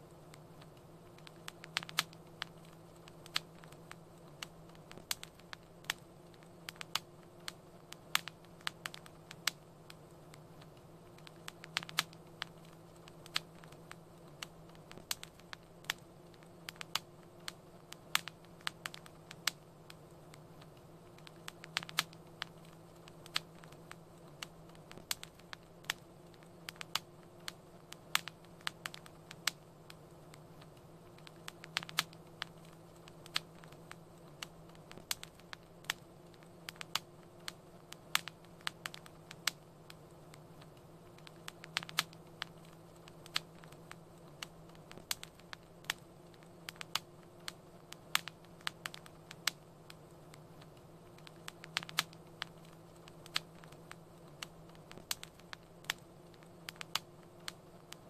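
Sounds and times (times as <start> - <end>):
fire crackling and popping: 0.0 - 58.0
low steady hum: 0.0 - 58.0.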